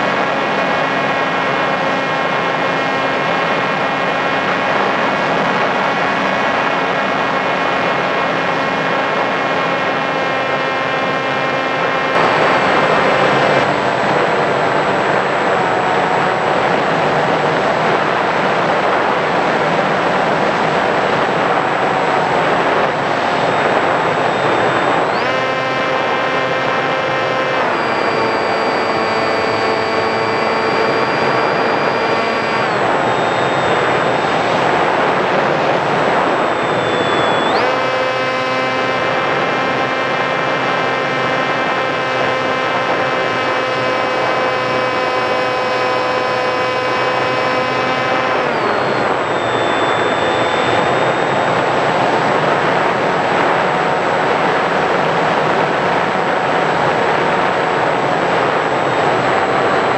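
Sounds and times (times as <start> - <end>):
electric motor and propeller whine: 0.0 - 59.9
wind rush on microphone: 0.0 - 59.9.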